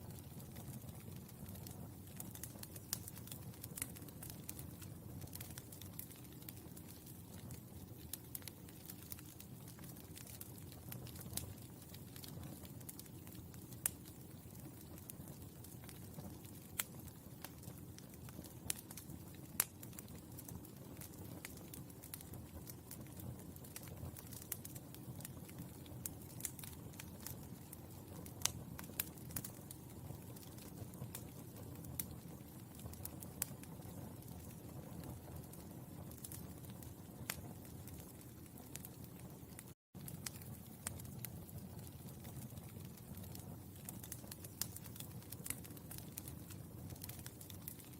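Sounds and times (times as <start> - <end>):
burning charcoal crackling: 0.0 - 47.9.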